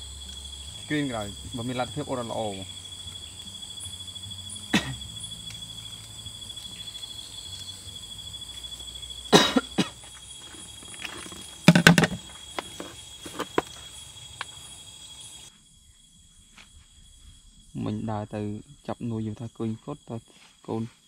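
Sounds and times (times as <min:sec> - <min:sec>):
crickets and insects chirping: 0:00.0 - 0:21.0.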